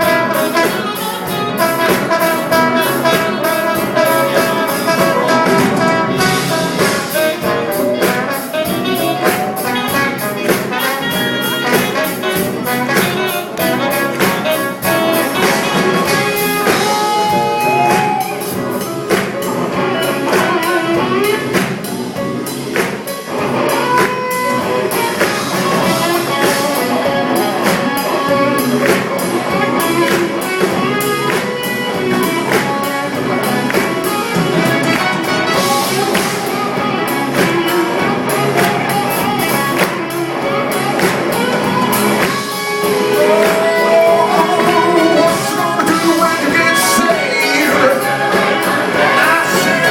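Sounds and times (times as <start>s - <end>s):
live band playing: 0.0s - 49.9s.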